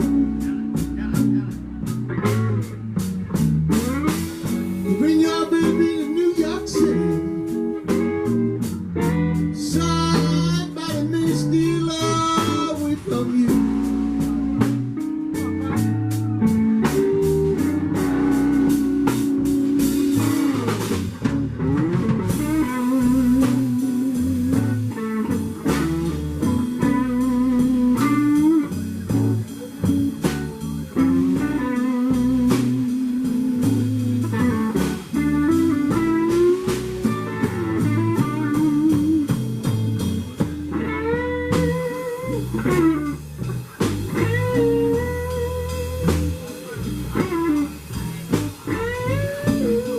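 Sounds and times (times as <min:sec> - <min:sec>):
blues band playing: 0:00.0 - 0:49.9
lead guitar bending notes: 0:00.0 - 0:49.9.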